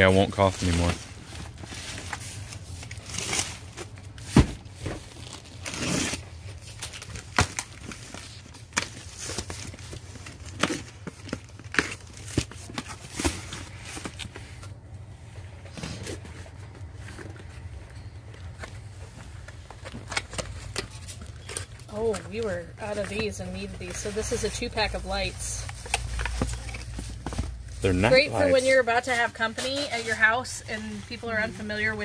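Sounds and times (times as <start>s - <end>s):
tape and cardboard tearing: 0.5s - 14.7s, 18.6s - 32.0s.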